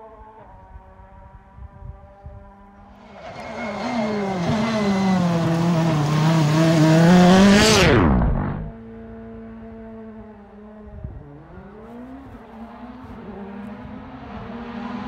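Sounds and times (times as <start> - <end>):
rally car engine passing by: 2.8 - 15.0.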